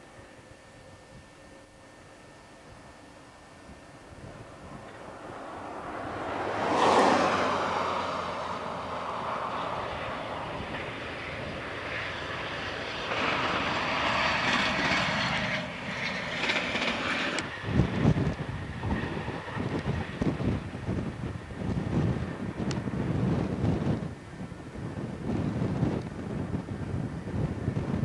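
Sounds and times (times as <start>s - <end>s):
diesel locomotive engine droning: 0.0s - 28.0s.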